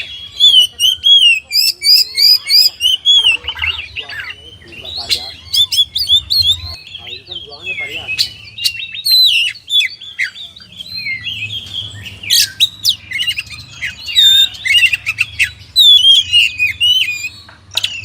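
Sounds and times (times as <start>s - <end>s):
bird singing whistles and chirps: 0.0s - 18.0s.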